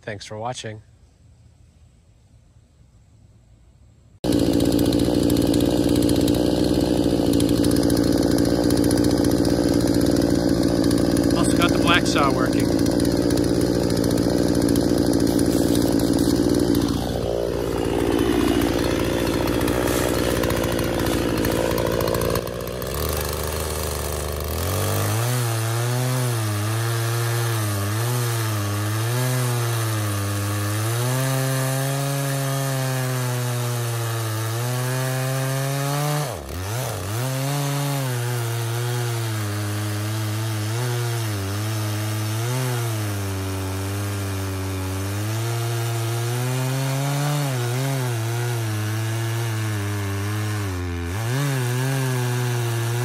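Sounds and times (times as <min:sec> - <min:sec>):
chainsaw sawing through log: 0:04.2 - 0:53.0.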